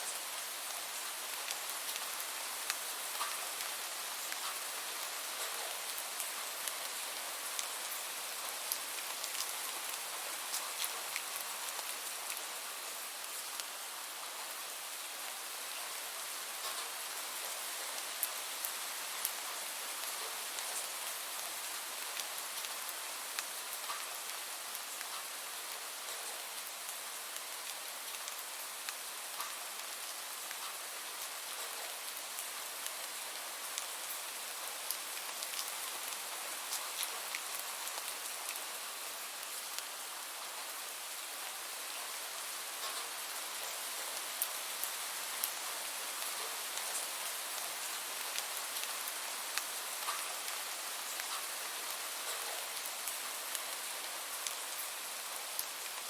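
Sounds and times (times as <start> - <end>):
raindrops pattering on a surface: 0.0 - 56.0.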